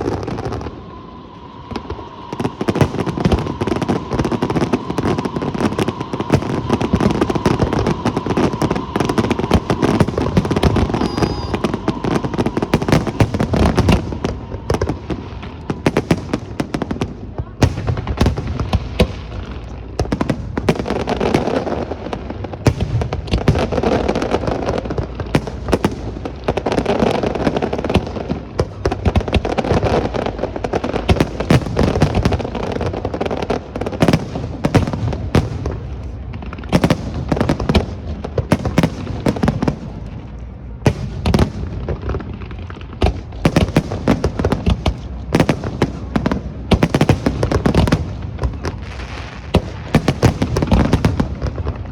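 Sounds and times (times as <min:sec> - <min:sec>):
crackling rumble: 0:00.0 - 0:51.9
fireworks bangs and crackles: 0:00.0 - 0:51.9.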